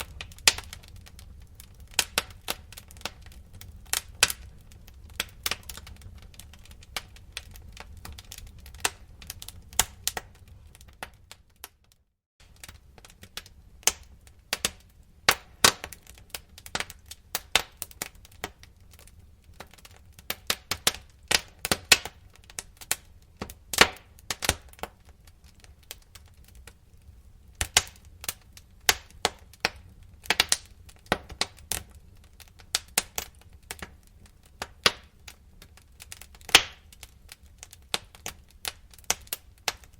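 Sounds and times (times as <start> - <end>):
low rumble of burning: 0.0 - 39.9
wood fire pops and snaps: 0.0 - 39.9.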